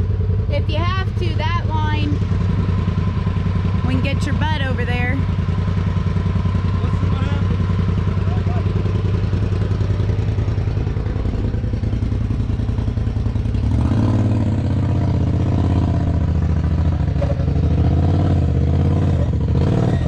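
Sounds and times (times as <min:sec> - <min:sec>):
side-by-side engine revving: 0:00.0 - 0:20.0.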